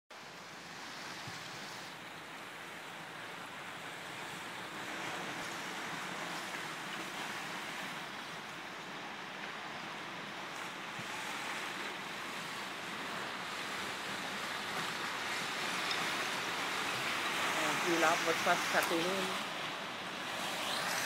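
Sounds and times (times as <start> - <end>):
river with ice floes rushing: 0.1 - 21.0.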